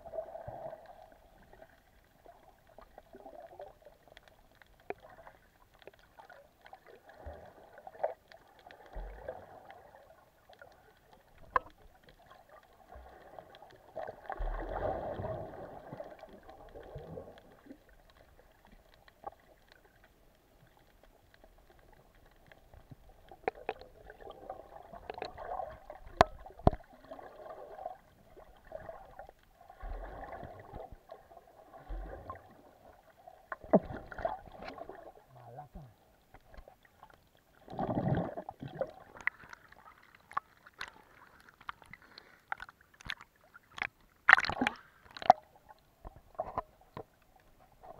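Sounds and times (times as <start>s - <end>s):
muffled underwater sloshing: 0.0s - 47.9s.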